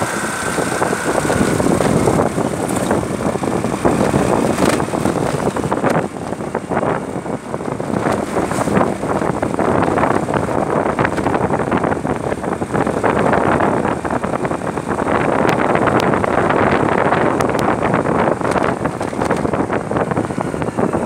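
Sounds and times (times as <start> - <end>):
road noise: 0.0 - 21.0
vehicle engine: 0.0 - 21.0
wind buffeting microphone: 0.0 - 21.0.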